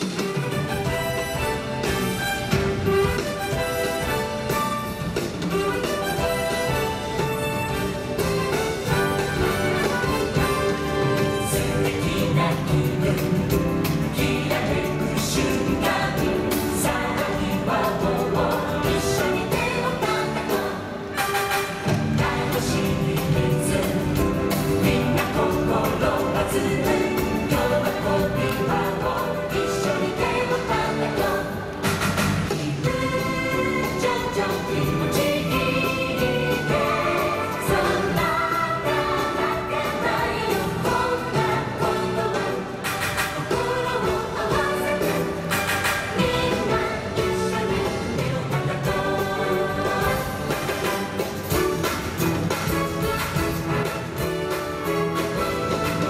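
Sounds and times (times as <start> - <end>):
full band playing show music: 0.0 - 56.0
choir-like singing with beat: 5.5 - 54.3.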